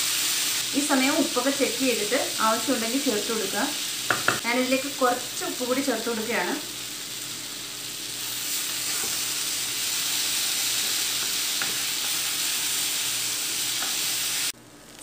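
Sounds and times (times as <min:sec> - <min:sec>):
stir-fry sizzling in a hot pan: 0:00.0 - 0:14.6.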